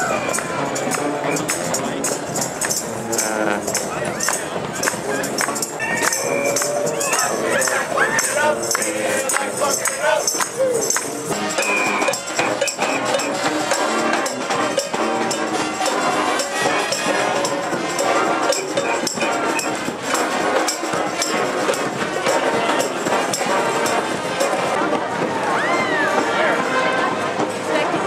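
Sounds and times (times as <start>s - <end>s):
jingling hand percussion: 0.0s - 25.4s
marching band playing: 0.0s - 28.0s
percussion beat: 0.0s - 28.0s.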